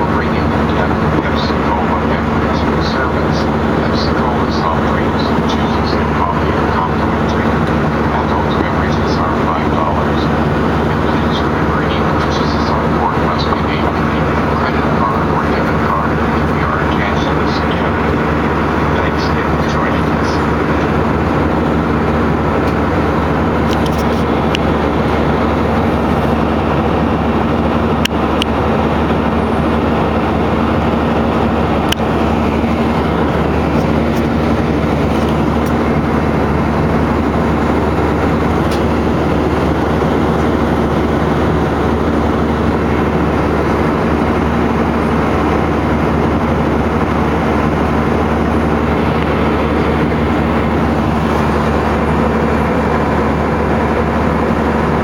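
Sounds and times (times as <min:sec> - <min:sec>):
airliner engine drone in cabin: 0:00.0 - 0:55.0
low steady hum: 0:00.0 - 0:55.0.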